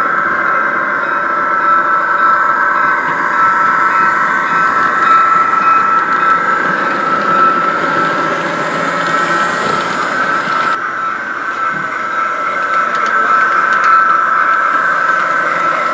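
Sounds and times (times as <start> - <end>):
model train whine: 0.0 - 15.9
wheels rumbling on rail: 0.0 - 15.9.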